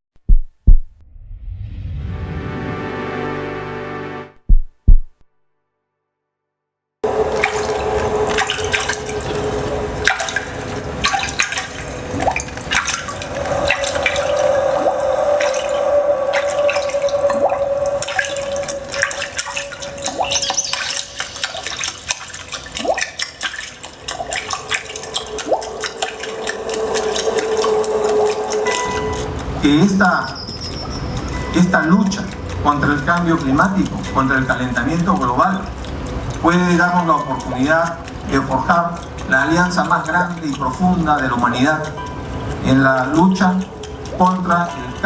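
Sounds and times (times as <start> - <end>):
steady held musical tone: 7.0 - 45.0
water dripping and splashing: 7.0 - 45.0.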